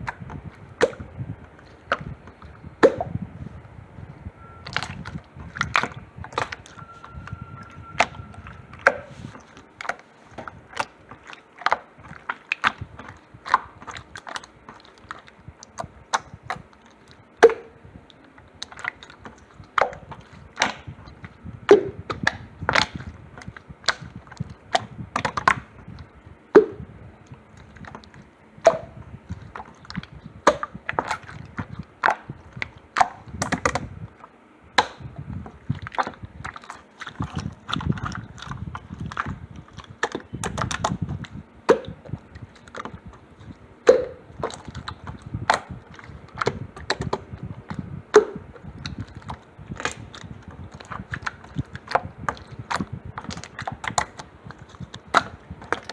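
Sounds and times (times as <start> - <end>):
slime squelching: 0.0 - 55.9.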